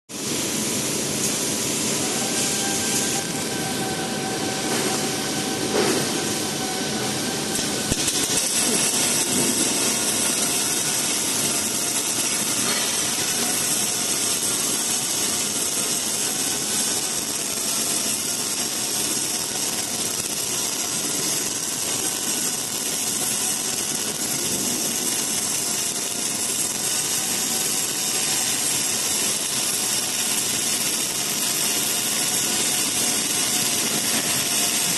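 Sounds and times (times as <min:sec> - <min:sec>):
welding arc crackling hiss: 0:00.1 - 0:34.9.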